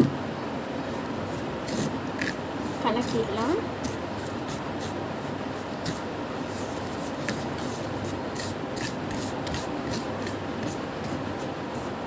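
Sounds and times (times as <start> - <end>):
gritty mixture stirring scraping: 0.8 - 12.0.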